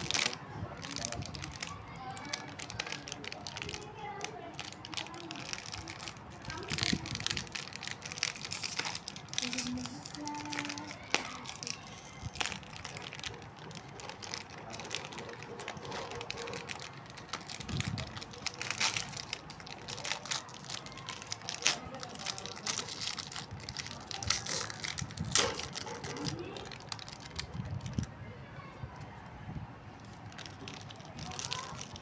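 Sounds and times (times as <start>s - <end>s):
plastic wrapper crinkling: 0.0s - 28.1s, 30.0s - 32.0s.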